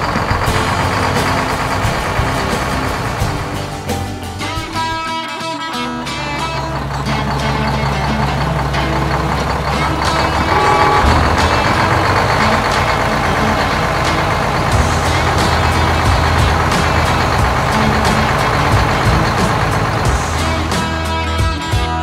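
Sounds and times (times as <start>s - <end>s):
heavy vehicle engine rumbling: 0.0s - 5.1s, 5.8s - 22.0s
background music: 0.0s - 22.0s.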